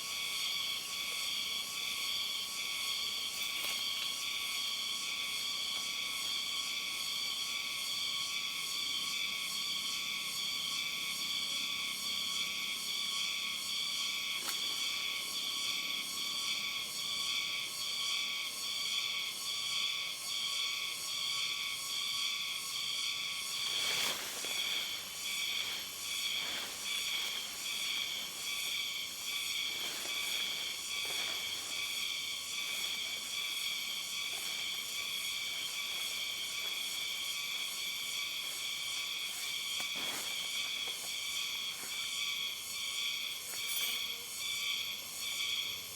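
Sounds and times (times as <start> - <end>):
night insects chorus: 0.0 - 45.9.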